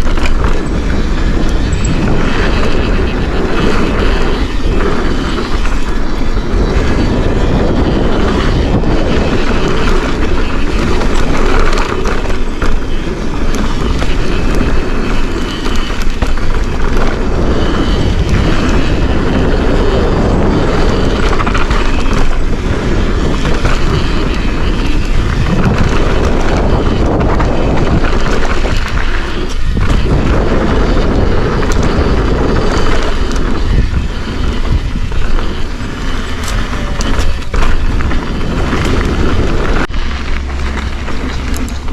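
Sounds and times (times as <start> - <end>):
bike clicks and rattles: 0.0 - 41.9
bike tyre rumble on dirt: 0.0 - 41.9
wind buffeting microphone: 0.0 - 41.9.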